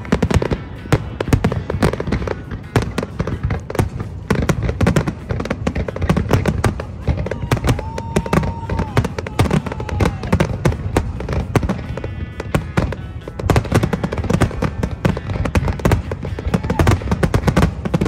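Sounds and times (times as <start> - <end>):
fireworks crackle: 0.0 - 18.0.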